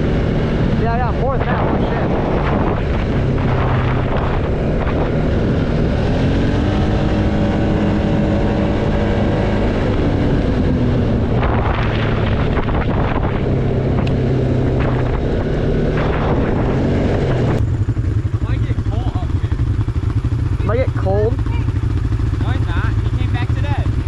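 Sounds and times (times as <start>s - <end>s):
quad bike engine running: 0.0s - 24.0s
wind buffeting microphone: 0.0s - 24.0s.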